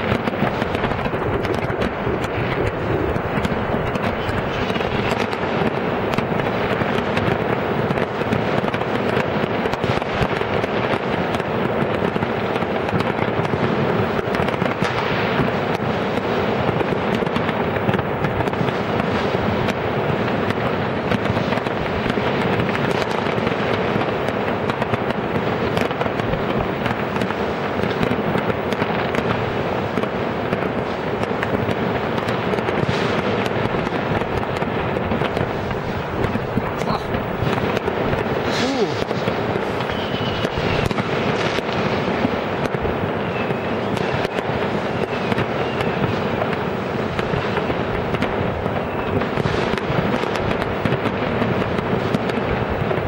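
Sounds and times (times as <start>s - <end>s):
fireworks crackling: 0.0s - 53.0s.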